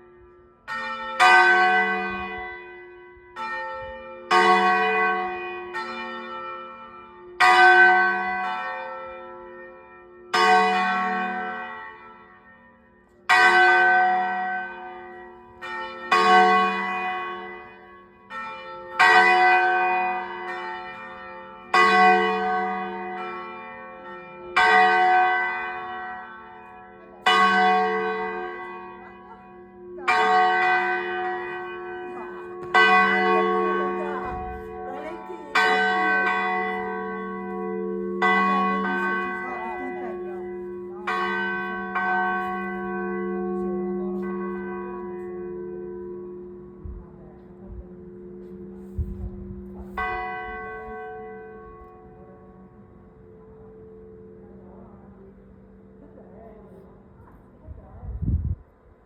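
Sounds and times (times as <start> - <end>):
church bell ringing: 0.0 - 57.6.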